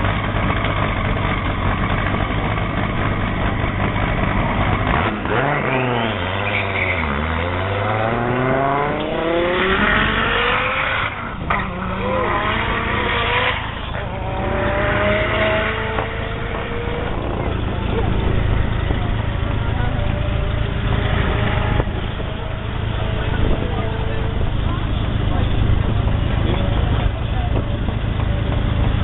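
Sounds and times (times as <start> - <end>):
car engine accelerating hard: 0.0 - 29.0.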